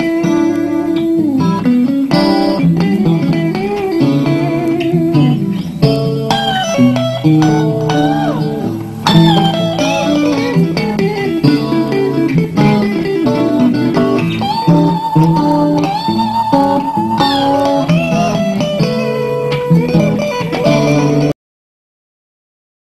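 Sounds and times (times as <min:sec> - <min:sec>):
guitar music: 0:00.0 - 0:21.4.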